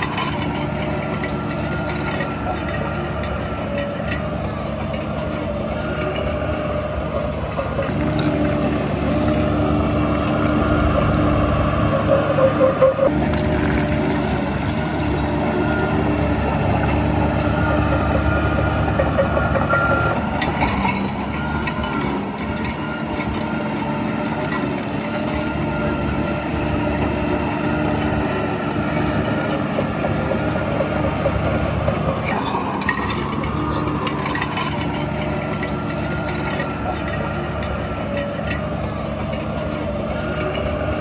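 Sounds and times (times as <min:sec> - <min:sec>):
bulldozer diesel engine running: 0:00.0 - 0:41.0
clatter: 0:00.0 - 0:41.0.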